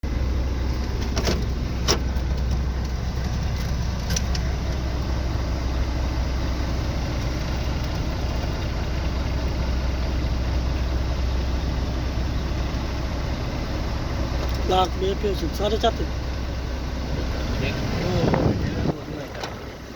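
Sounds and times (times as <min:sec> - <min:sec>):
truck diesel engine idling: 0:00.0 - 0:19.9.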